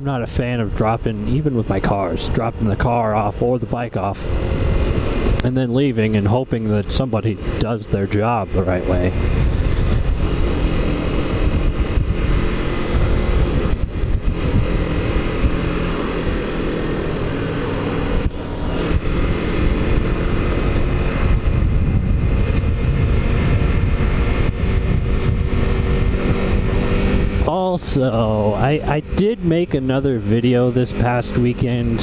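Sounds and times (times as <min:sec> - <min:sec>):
motorcycle engine cruising: 0:00.0 - 0:32.0
wind noise on microphone: 0:00.4 - 0:05.4, 0:06.0 - 0:16.6, 0:18.0 - 0:29.4.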